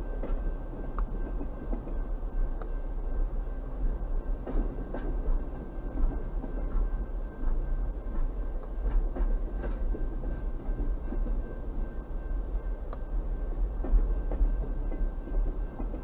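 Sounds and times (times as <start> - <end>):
steel wheels knocking on rails: 0.0 - 2.8, 4.2 - 12.0, 13.7 - 16.0
freight train rumble: 0.0 - 16.0.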